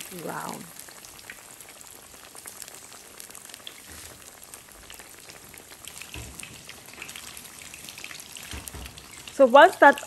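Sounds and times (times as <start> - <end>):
cheese frying in hot oil: 0.0 - 10.0.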